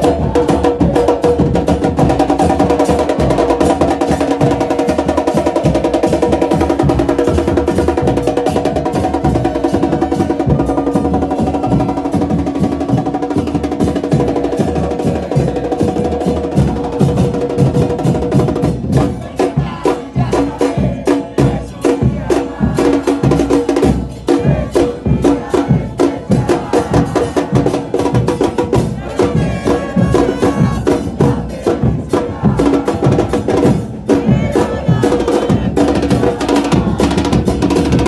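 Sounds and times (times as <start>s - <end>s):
drums playing fast rhythm: 0.0s - 38.0s.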